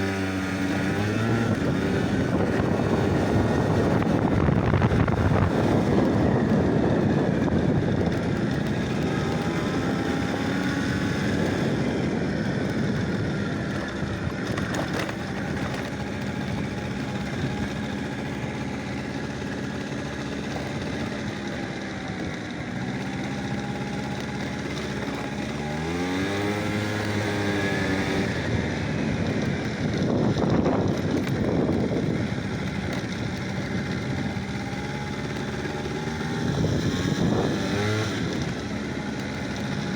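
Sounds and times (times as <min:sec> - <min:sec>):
wind rumble on microphone: 0:00.0 - 0:19.6, 0:25.2 - 0:39.9
vehicle engine running: 0:00.0 - 0:39.9.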